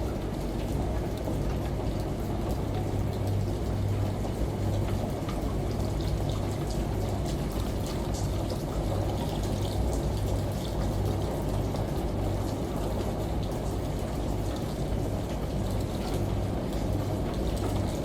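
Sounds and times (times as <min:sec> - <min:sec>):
water drips and patters: 0:00.0 - 0:18.0.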